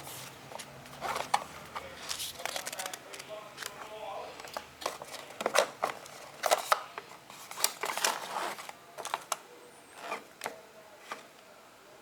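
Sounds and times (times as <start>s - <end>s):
plastic packaging clicks and rustles: 0.0s - 11.3s.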